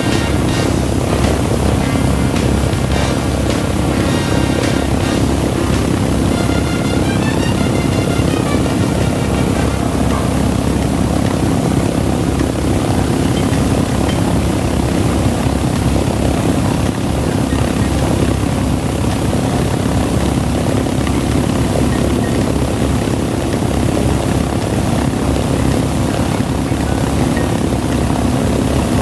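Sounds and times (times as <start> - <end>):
propeller aircraft engines droning: 0.0 - 29.0.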